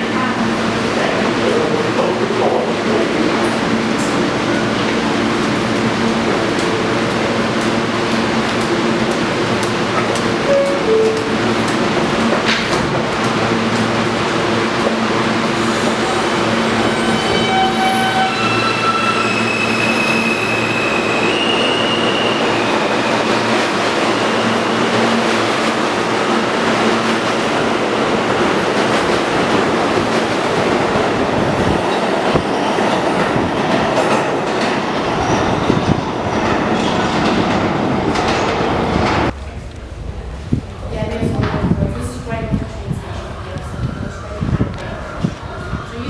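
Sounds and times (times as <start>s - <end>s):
subway train electric whine: 0.0s - 46.0s
wheels rumbling on rail: 0.0s - 46.0s.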